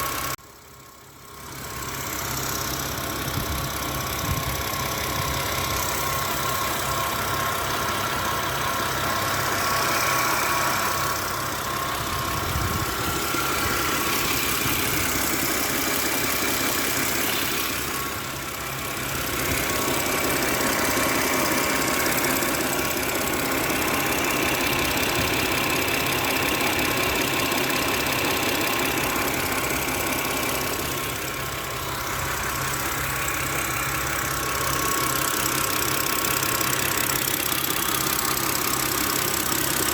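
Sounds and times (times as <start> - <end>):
car engine idling: 0.0 - 39.9
engine ticking: 0.0 - 39.9.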